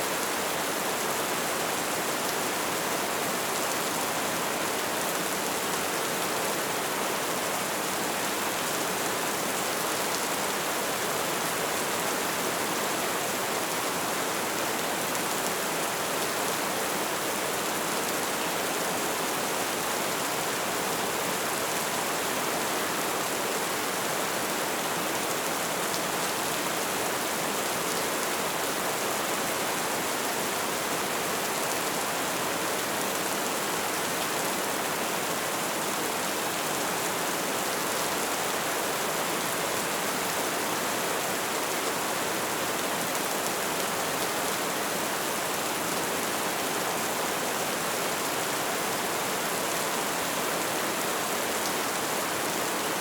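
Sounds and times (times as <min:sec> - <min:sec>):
light rain falling: 0:00.0 - 0:53.0.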